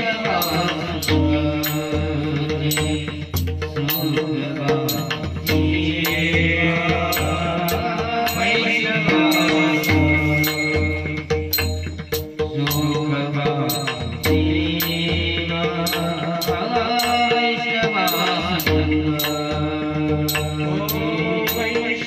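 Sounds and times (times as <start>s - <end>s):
drum strokes: 0.0s - 22.0s
sharp percussion beat: 0.0s - 22.0s
voices singing devotional song: 0.0s - 22.0s.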